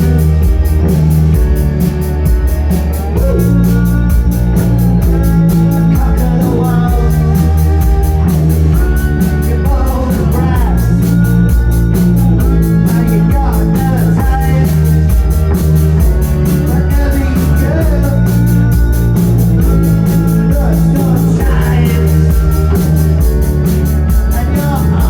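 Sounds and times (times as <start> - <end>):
distorted guitar: 0.0 - 25.0
drum kit with cymbals: 0.0 - 25.0
heavy bass line: 0.0 - 25.0.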